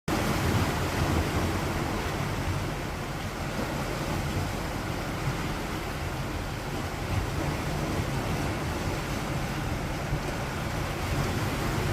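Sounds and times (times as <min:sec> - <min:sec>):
sea surf washing in: 0:00.1 - 0:11.9
wind rumbling on microphone: 0:00.1 - 0:11.9.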